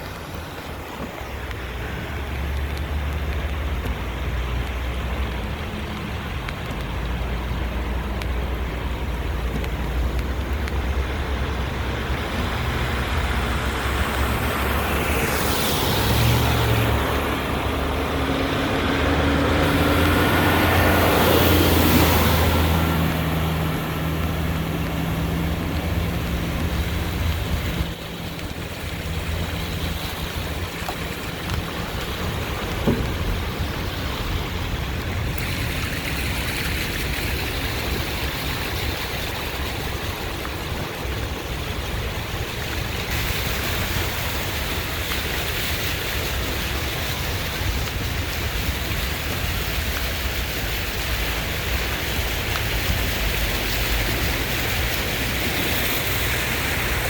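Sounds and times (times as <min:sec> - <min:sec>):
flood water rushing: 0:00.0 - 0:57.0
low engine hum: 0:00.0 - 0:57.0
rain: 0:00.0 - 0:57.0.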